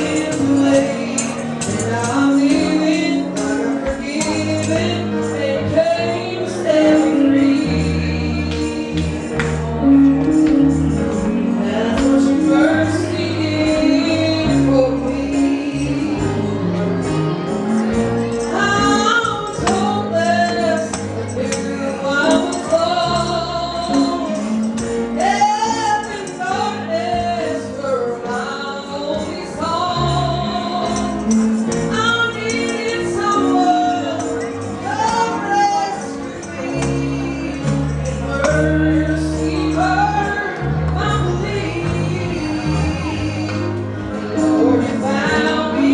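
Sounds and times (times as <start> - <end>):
band accompaniment: 0.0 - 45.9
person singing: 0.0 - 45.9.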